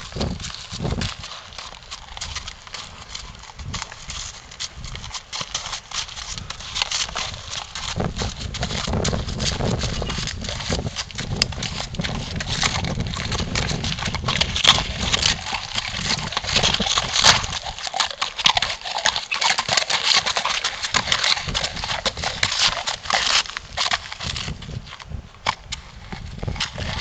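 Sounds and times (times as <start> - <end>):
horse hooves on wet gravel: 0.0 - 27.0.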